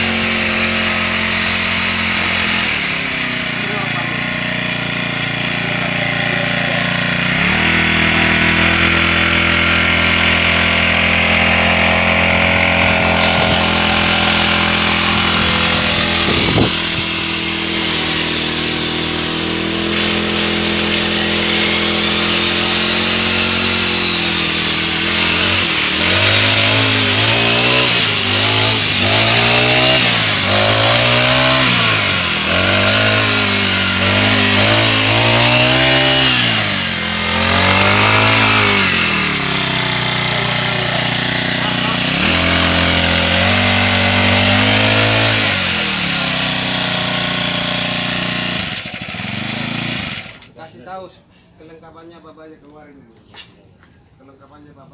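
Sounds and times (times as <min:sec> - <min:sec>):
brush cutter engine revving: 0:00.0 - 0:50.6.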